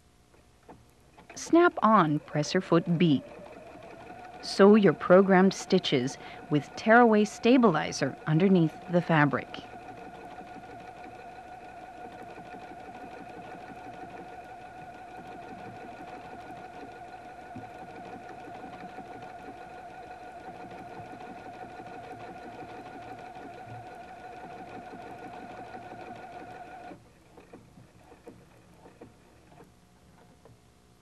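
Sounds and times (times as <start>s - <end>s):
sewing machine humming: 1.2s - 29.7s.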